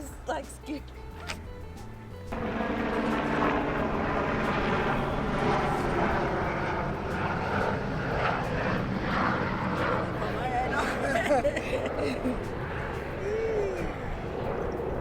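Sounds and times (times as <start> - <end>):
airplane engine noise: 1.2 - 15.0.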